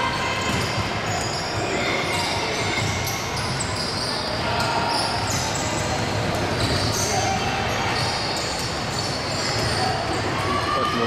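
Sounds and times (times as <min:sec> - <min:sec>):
echoing hall noise: 0:00.0 - 0:11.0
sneaker squeaks on wooden floor: 0:00.4 - 0:10.5.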